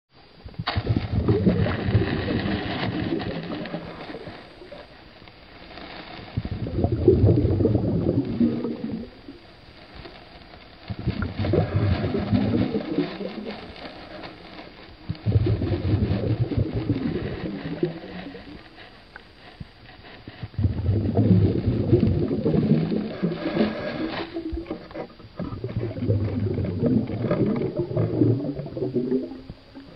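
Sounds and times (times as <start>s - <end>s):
underwater gurgling water: 0.3s - 29.9s.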